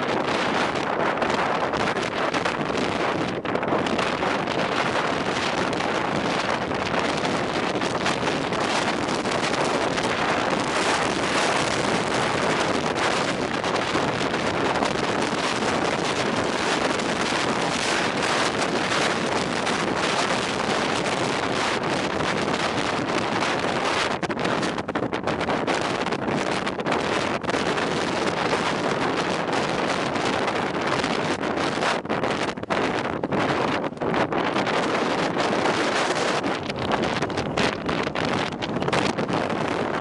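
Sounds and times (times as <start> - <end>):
strong wind buffeting microphone: 0.0 - 40.0.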